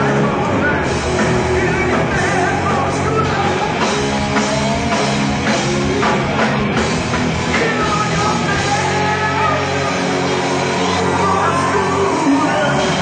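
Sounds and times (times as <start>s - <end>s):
person singing: 0.0s - 5.0s, 7.5s - 13.0s
live rock band playing: 0.0s - 13.0s.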